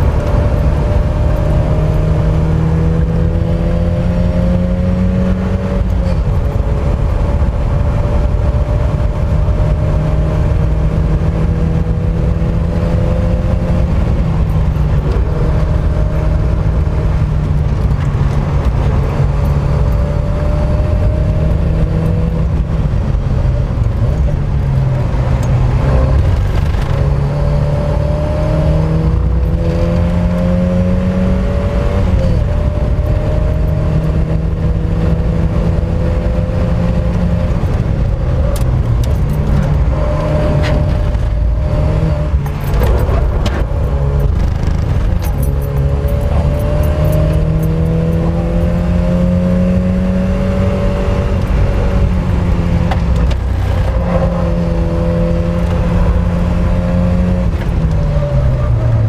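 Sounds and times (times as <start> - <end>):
car engine revving hard: 0.0 - 24.4, 25.0 - 59.0
road rumble: 0.0 - 59.0
wind rumble: 0.0 - 59.0.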